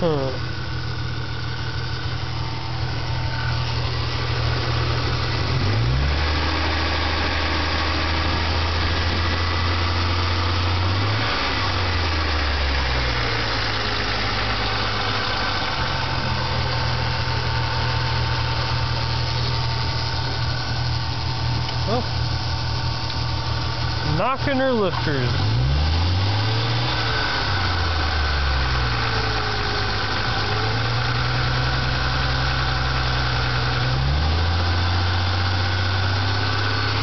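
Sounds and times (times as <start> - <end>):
car engine running: 0.0 - 37.0.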